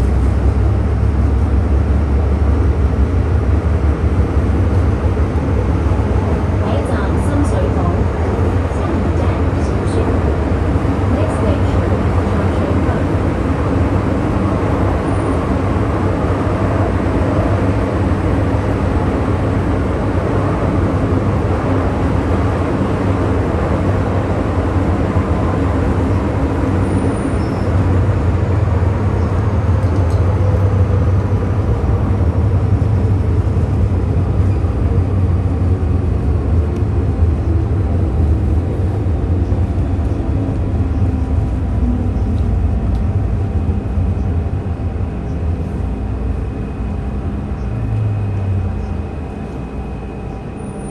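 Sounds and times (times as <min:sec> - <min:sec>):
train wheels rumbling on track: 0:00.0 - 0:50.9.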